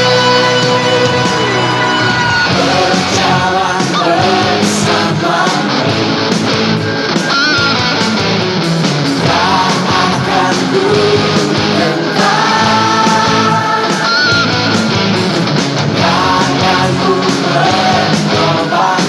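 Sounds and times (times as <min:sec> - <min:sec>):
lead guitar melody: 0:00.0 - 0:03.7, 0:04.5 - 0:17.3
full band backing track: 0:00.0 - 0:19.0.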